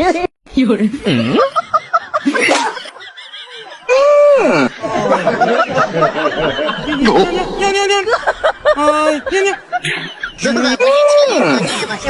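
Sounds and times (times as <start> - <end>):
people laughing: 1.1 - 12.0.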